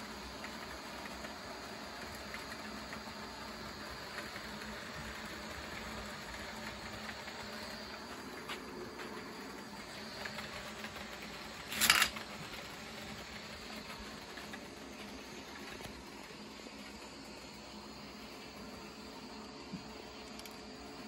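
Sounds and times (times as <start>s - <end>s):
model train motors whirring: 0.0s - 21.0s.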